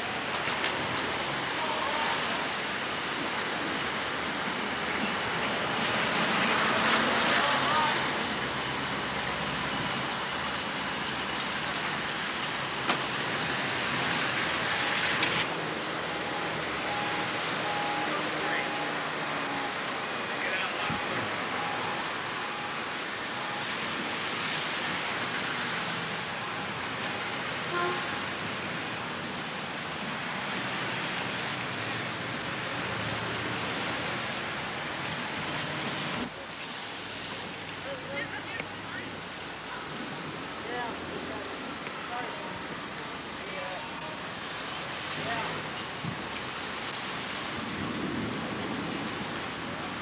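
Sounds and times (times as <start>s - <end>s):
cars passing on road: 0.0s - 50.0s
rain falling on pavement: 0.0s - 50.0s.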